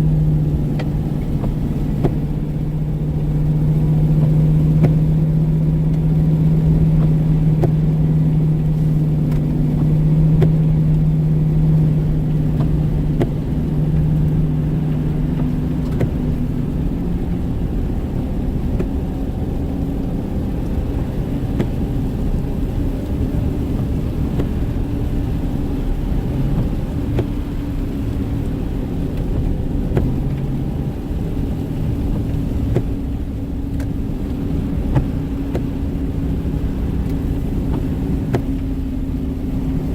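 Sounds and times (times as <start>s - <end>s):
car engine hum: 0.0s - 39.9s
low road rumble: 0.0s - 39.9s.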